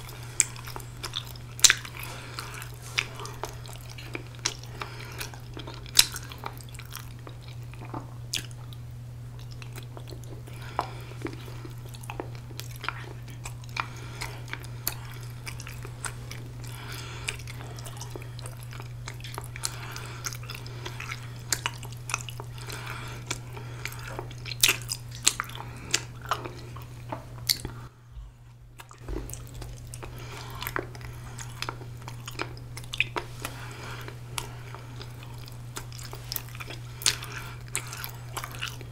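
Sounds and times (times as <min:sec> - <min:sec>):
person chewing rice cake: 0:00.0 - 0:38.9
steady low hum: 0:00.0 - 0:38.9.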